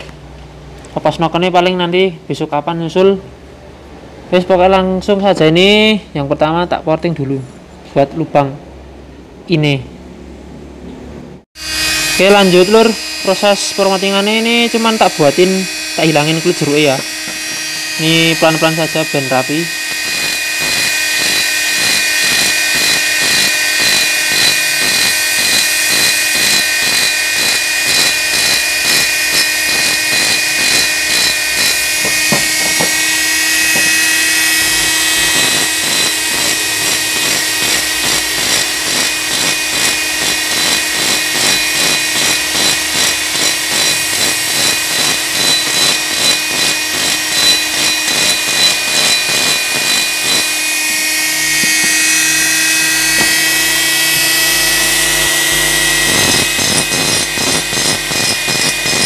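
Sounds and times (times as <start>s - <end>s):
mini grinder whining: 11.6s - 59.0s.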